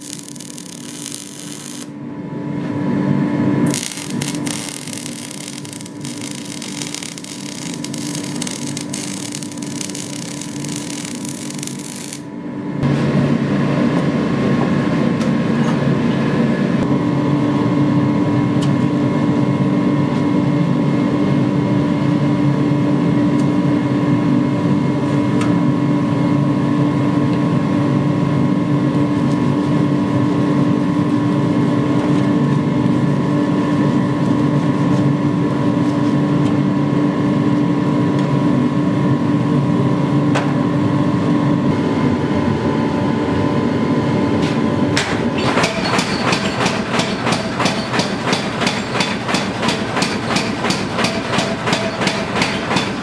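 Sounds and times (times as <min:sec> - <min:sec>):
constant hum: 0:00.0 - 0:45.5
gas forge burner roaring: 0:00.0 - 0:53.0.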